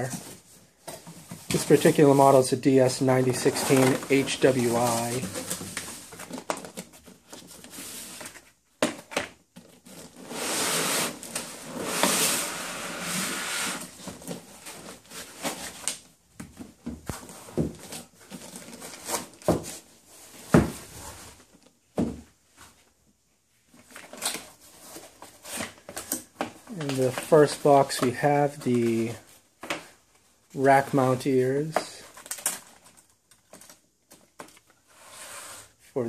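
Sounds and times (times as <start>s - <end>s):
cardboard and foam rustling: 0.0s - 23.0s, 23.6s - 30.0s.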